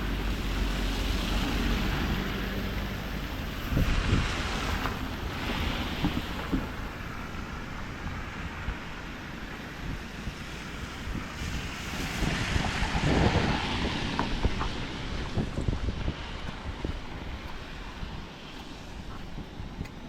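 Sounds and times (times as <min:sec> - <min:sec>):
floodwater rushing: 0:00.0 - 0:20.0
wind buffeting microphone: 0:00.0 - 0:20.0.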